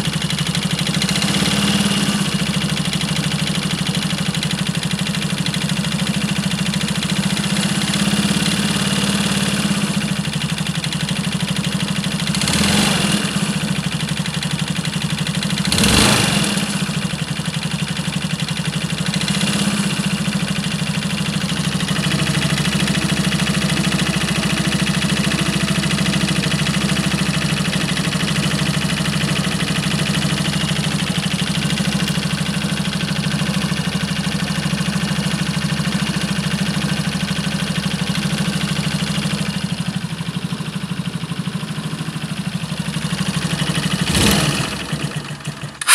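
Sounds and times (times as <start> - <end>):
scooter engine idling and revving: 0.0 - 45.9.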